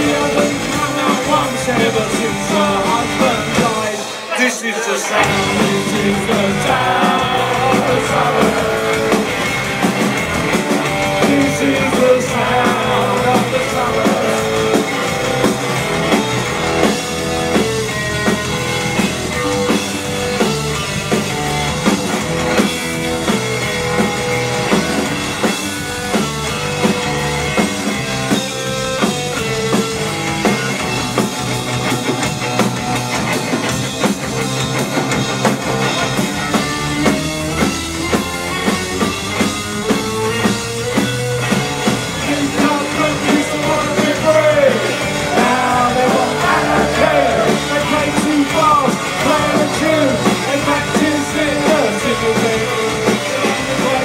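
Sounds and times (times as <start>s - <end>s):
live punk rock band: 0.0s - 54.0s.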